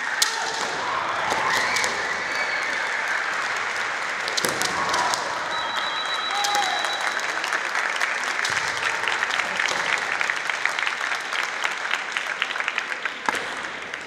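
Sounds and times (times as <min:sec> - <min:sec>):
spectators clapping: 0:00.0 - 0:14.0.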